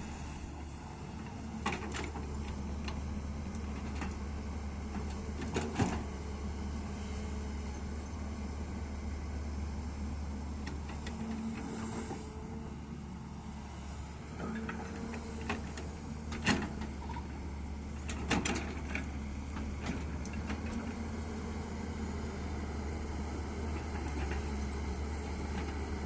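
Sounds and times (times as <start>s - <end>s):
excavator diesel engine drone: 0.0s - 26.0s.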